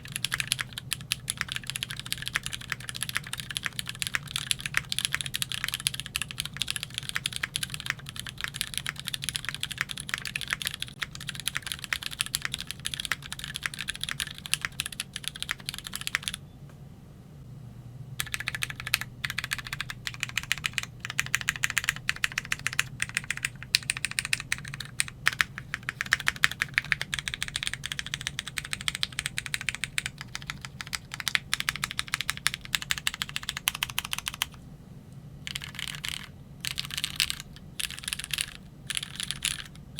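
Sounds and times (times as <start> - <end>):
mechanical keyboard typing: 0.0 - 16.4, 18.2 - 34.6, 35.5 - 39.9.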